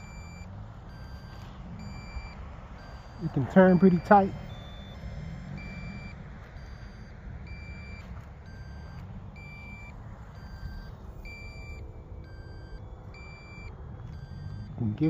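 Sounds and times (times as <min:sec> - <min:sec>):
short high beeps: 0:00.0 - 0:14.8
fainter lower beep: 0:00.0 - 0:15.0
steady low rumble: 0:00.0 - 0:15.0.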